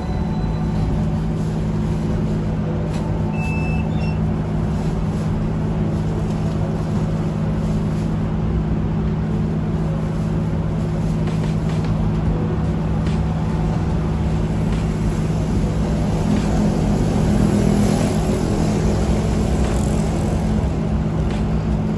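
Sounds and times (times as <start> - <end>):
stationary vehicle humming: 0.0 - 21.9
street traffic: 0.0 - 21.9.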